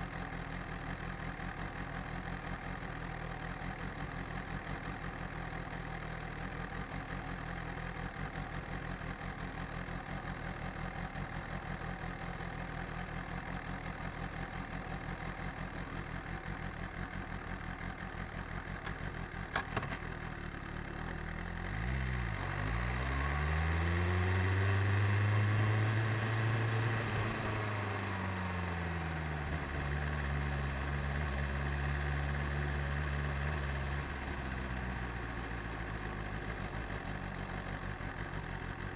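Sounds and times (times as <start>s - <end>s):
motorcycle engine idling: 0.0s - 22.4s, 26.9s - 38.9s.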